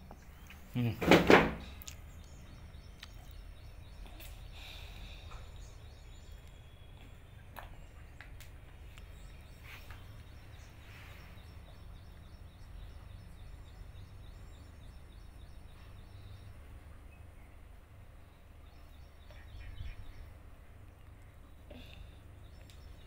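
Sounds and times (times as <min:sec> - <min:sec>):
distant bird chirping: 0:00.0 - 0:23.0.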